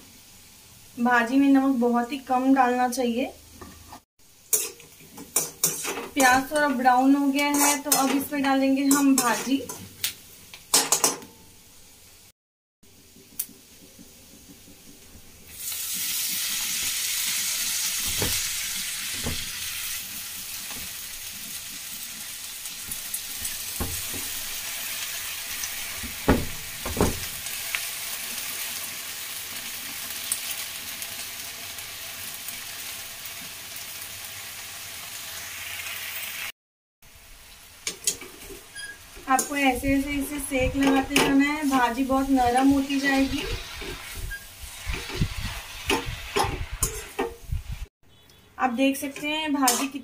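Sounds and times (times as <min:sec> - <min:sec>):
greens sizzling in hot oil: 0:04.2 - 0:12.3, 0:12.9 - 0:36.5, 0:37.1 - 0:47.9.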